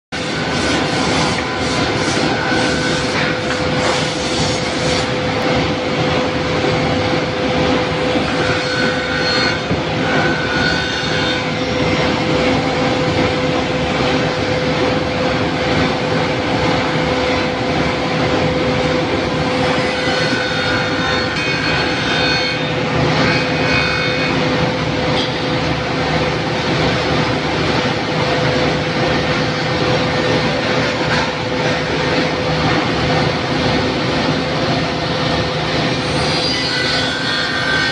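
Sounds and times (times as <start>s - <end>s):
cutting machine humming: 0.1s - 37.9s
high machine whines: 0.1s - 37.9s.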